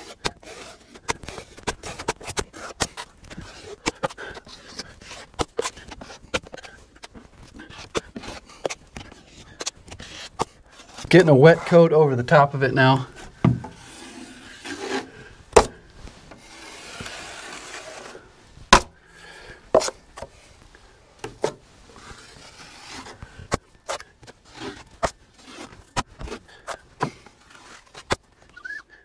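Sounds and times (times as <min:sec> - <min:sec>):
drywall knife scraping: 0:00.0 - 0:11.8, 0:13.0 - 0:20.4, 0:21.2 - 0:28.8.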